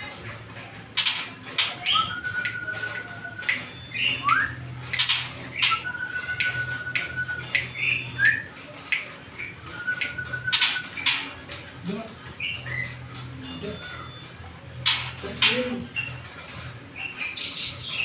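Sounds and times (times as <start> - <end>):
songbird chirping: 1.0 - 18.0.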